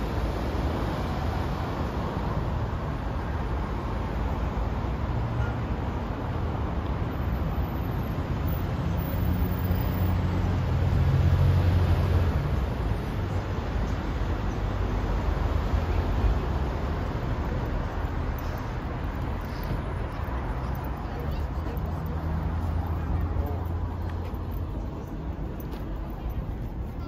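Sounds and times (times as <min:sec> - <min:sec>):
road traffic hum: 0:00.0 - 0:27.0.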